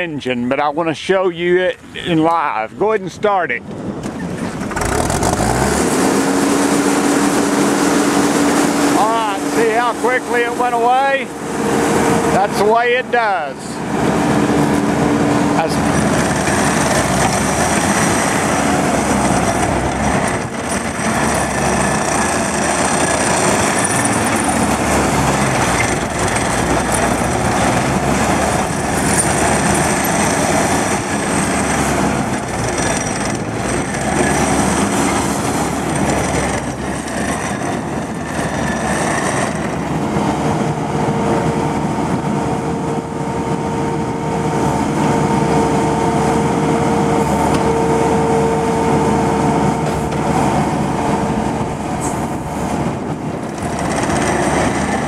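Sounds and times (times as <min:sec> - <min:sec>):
skid steer diesel engine: 0:00.0 - 0:55.0
steady humming tone: 0:05.8 - 0:34.0, 0:34.6 - 0:53.7.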